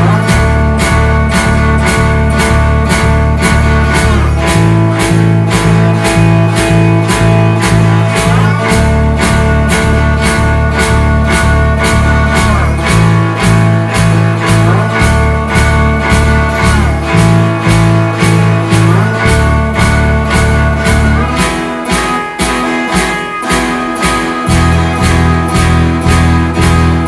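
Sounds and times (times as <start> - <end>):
electric blues band playing: 0.0 - 27.0
sliding guitar: 0.0 - 27.0.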